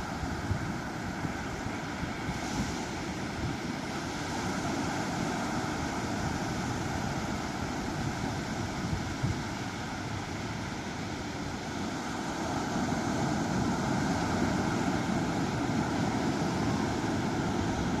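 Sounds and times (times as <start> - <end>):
waves breaking: 0.0 - 18.0.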